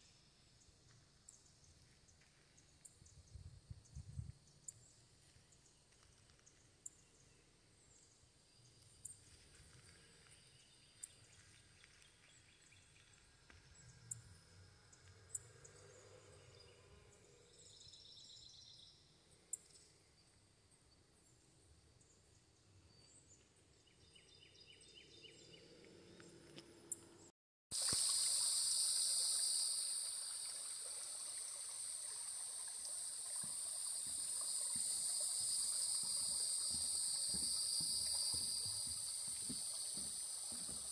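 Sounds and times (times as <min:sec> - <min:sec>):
insect chorus drone: 0:00.0 - 0:21.4, 0:27.8 - 0:40.9.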